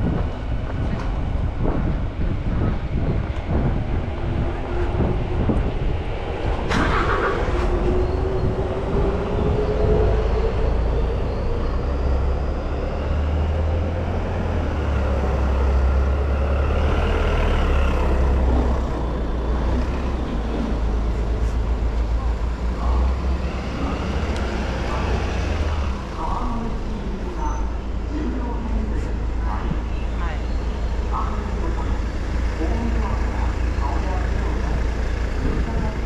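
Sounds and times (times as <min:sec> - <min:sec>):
street traffic: 0:00.0 - 0:36.0.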